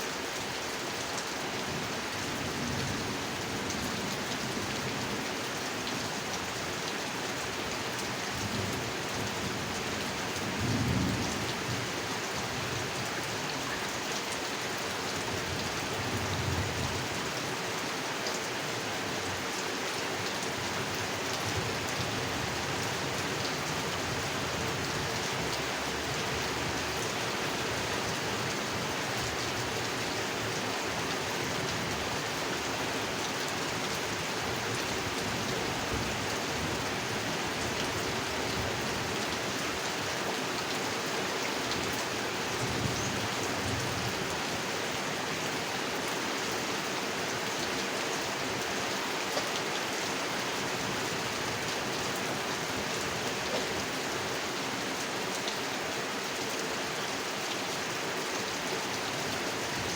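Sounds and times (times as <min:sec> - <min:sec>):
rain falling on a pond: 0:00.0 - 0:59.9.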